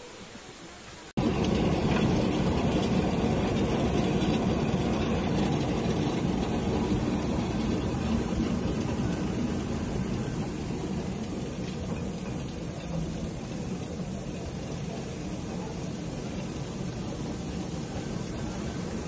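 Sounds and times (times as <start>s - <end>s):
cable car running on cable: 1.2s - 19.0s.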